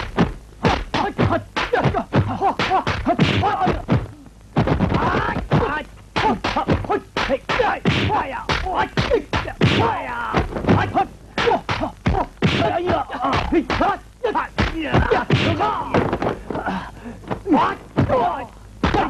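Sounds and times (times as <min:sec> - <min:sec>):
punch and kick impacts: 0:00.1 - 0:13.9, 0:14.6 - 0:19.0
fighters grunting and shouting: 0:00.7 - 0:04.0, 0:04.8 - 0:19.0.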